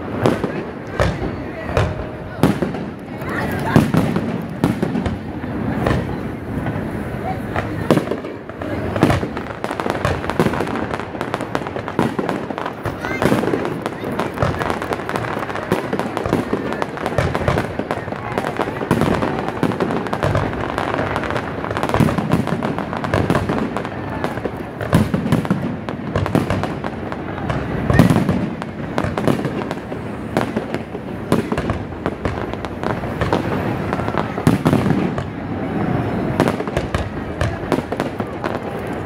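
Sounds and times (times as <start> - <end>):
fireworks bursting: 0.0 - 39.0
fireworks crackling: 0.0 - 39.0.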